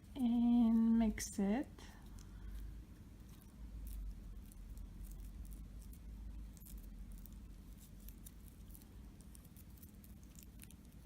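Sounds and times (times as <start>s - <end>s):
low steady hum: 0.0s - 11.0s
sticky dough squishing: 0.0s - 11.0s.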